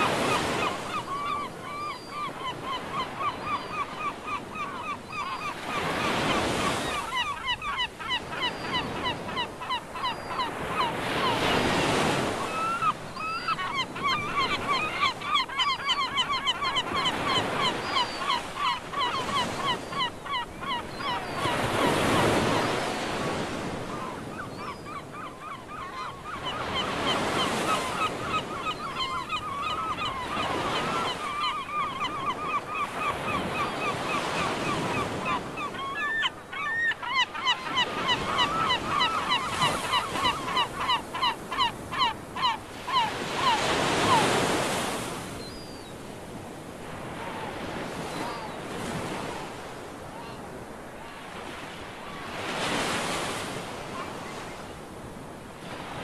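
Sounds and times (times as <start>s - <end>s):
flock of birds calling: 0.0s - 45.9s.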